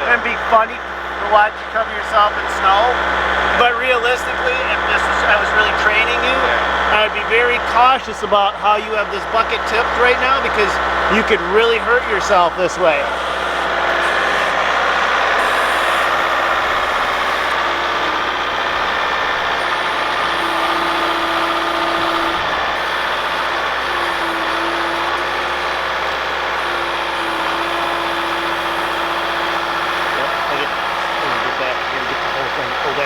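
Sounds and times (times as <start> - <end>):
loader engine running: 0.0 - 33.0
pitched whine: 0.0 - 33.0.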